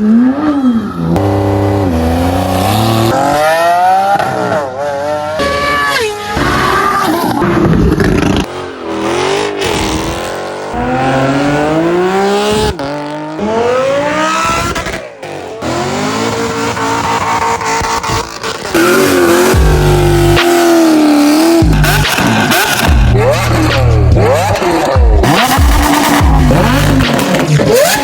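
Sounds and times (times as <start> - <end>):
car engines revving and accelerating: 0.0 - 28.0.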